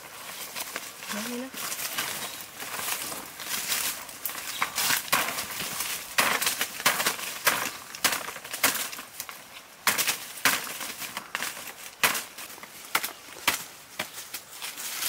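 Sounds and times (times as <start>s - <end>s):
leaves rustling: 0.0s - 15.0s
machete chopping leaf stalks: 0.5s - 15.0s.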